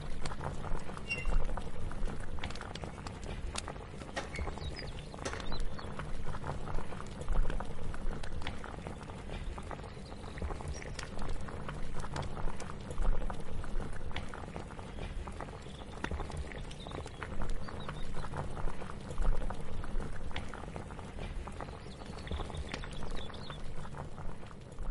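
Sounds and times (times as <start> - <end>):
pot of liquid boiling: 0.0 - 24.9.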